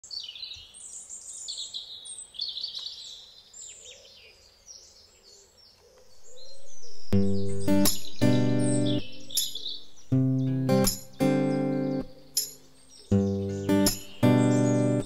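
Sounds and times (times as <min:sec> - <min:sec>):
small songbirds singing: 0:00.0 - 0:15.0.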